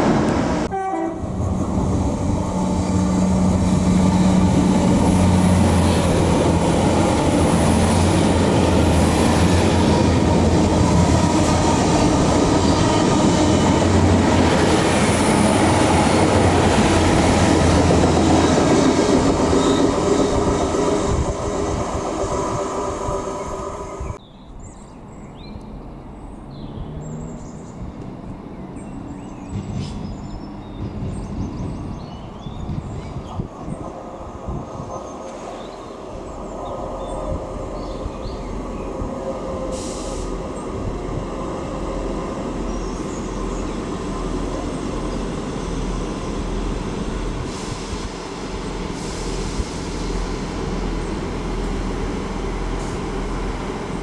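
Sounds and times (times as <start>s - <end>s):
train passing with rail clatter: 0.0s - 54.0s.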